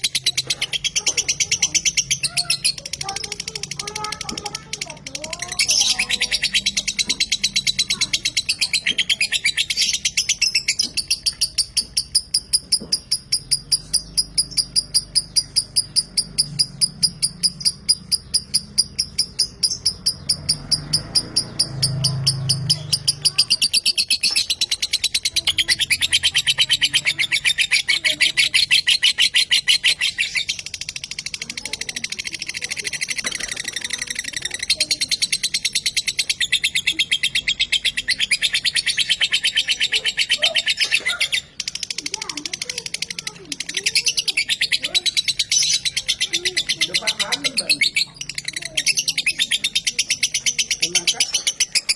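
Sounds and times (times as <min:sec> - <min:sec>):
lovebird chattering: 0:00.0 - 0:51.9.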